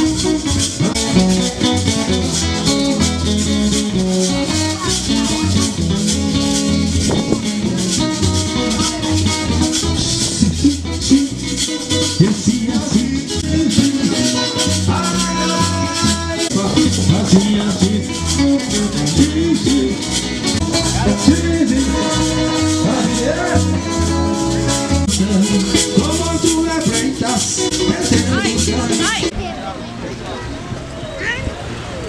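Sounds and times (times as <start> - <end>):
background music with beat: 0.0 - 29.3
shaker: 0.0 - 29.3.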